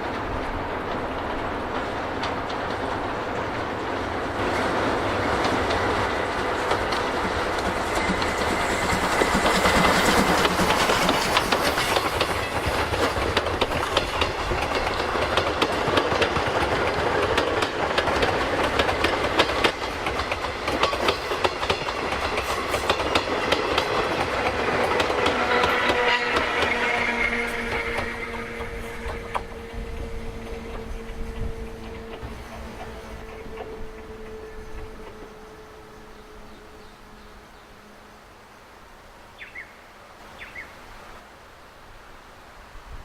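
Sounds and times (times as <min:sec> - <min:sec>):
train wheels clicking over rail joints: 0:00.0 - 0:35.7
train rumbling: 0:00.0 - 0:38.5.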